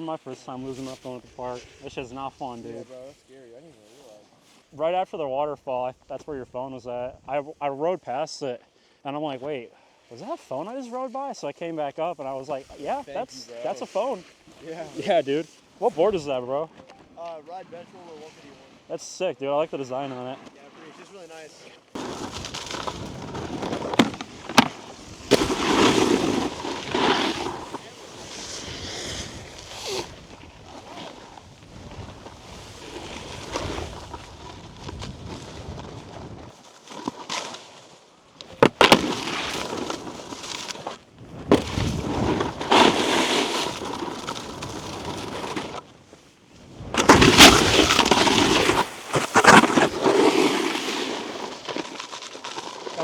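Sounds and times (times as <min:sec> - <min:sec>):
snowboard edges scraping snow: 0:00.0 - 0:07.5, 0:09.1 - 0:53.0.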